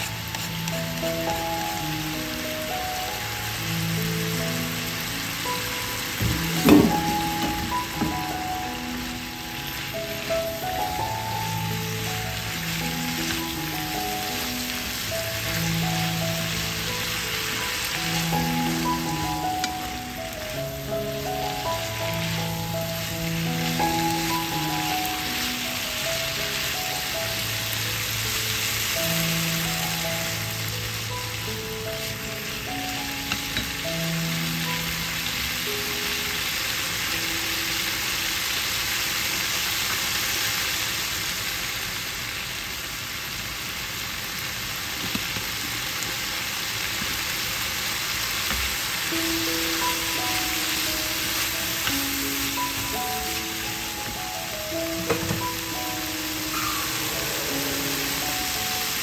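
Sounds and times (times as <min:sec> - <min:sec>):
soft background music: 0:00.0 - 0:40.8, 0:46.2 - 0:59.0
food sizzling in frying pan: 0:00.0 - 0:59.0.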